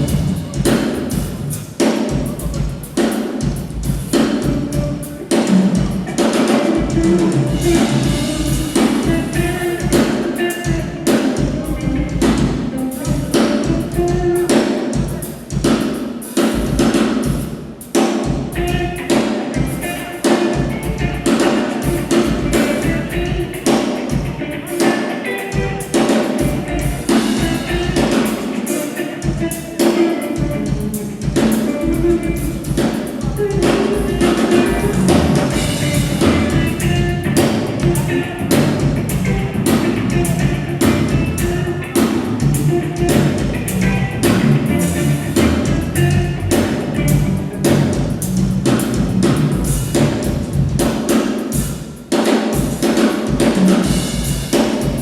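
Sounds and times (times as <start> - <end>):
drum kit playing rapidly: 0.0 - 55.0.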